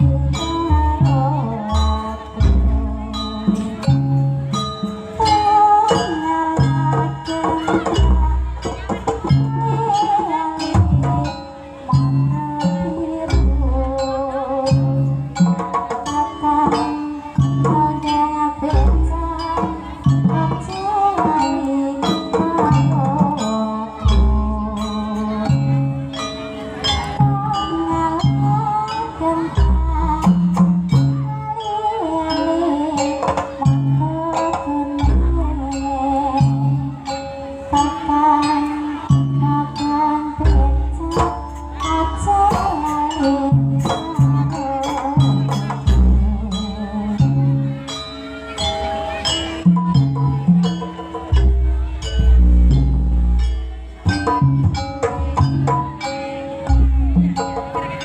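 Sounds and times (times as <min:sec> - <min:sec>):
hand drum percussion: 0:00.0 - 0:58.0
wavering melody: 0:00.0 - 0:58.0.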